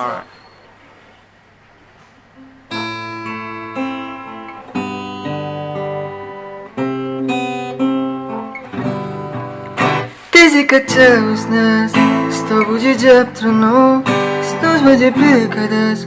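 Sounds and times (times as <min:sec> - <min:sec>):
acoustic guitar strumming chords: 0:02.4 - 0:16.0.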